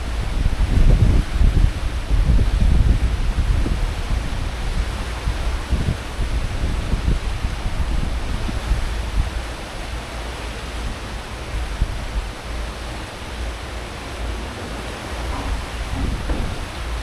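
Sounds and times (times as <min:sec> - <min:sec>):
churning wake water: 0:00.0 - 0:17.0
deep ship engine rumble: 0:00.0 - 0:17.0.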